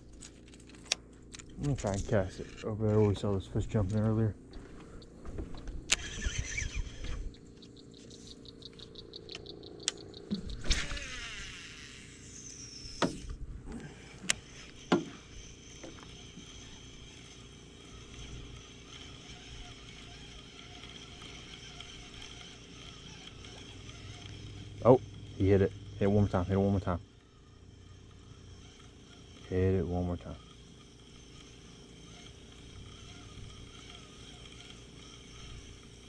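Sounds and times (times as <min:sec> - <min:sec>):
whirring reel spool: 0:00.0 - 0:36.0
fishing reel clicking: 0:05.8 - 0:36.0.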